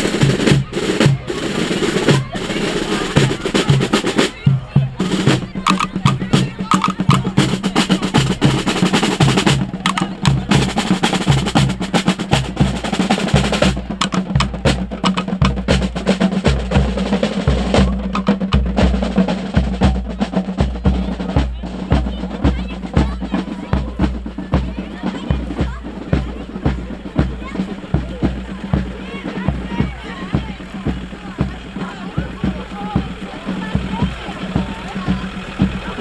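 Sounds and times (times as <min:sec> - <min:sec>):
band playing a march: 0:00.0 - 0:36.0
bass drum beat: 0:00.0 - 0:36.0
snare drum rolls: 0:00.0 - 0:36.0.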